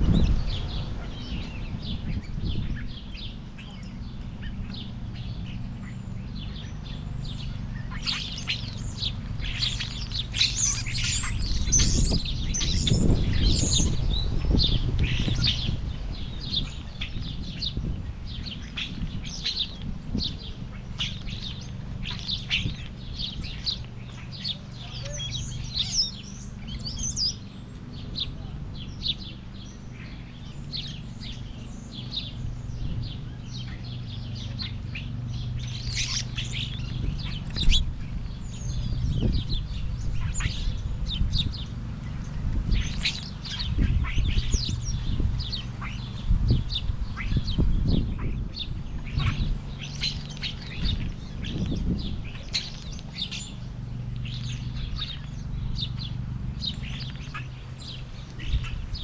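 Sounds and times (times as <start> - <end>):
small birds chirping: 0.0 - 59.0
steady low hum: 0.0 - 59.0.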